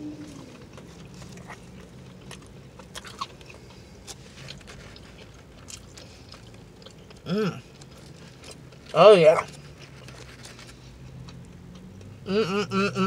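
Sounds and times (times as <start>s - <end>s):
person chewing food: 0.0s - 12.3s.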